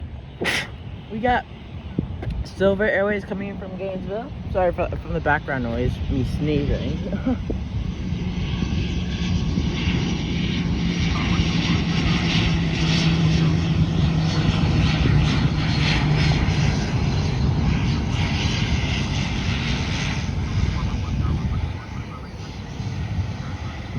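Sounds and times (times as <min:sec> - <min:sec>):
airplane propeller hum: 0:00.0 - 0:23.9
engine rush: 0:00.2 - 0:23.9.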